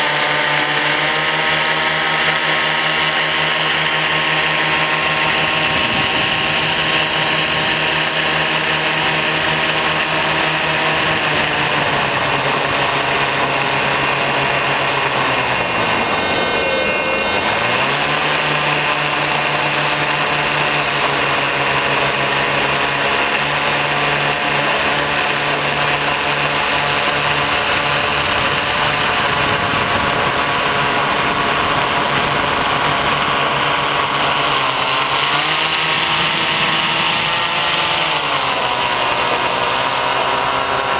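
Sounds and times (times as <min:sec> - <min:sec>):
propeller motors whining: 0:00.0 - 0:40.9.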